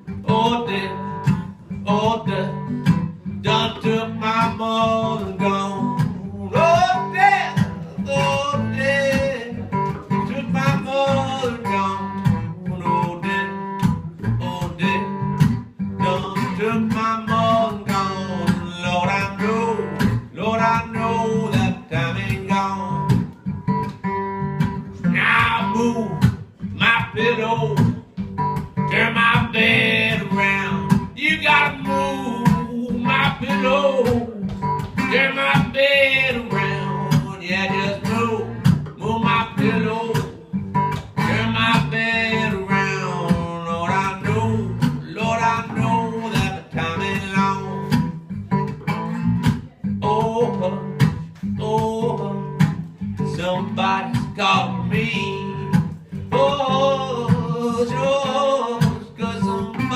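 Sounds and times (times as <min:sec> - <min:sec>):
acoustic guitars playing blues: 0:00.0 - 0:59.9.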